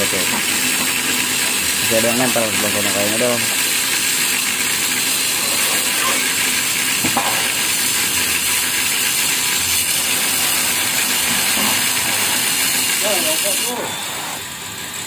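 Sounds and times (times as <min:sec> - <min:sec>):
cutting torch hissing: 0:00.0 - 0:15.0.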